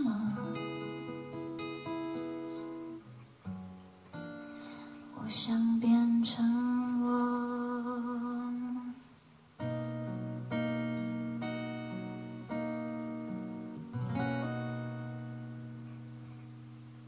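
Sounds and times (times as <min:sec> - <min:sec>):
acoustic guitar strummed chords: 0:00.0 - 0:17.0.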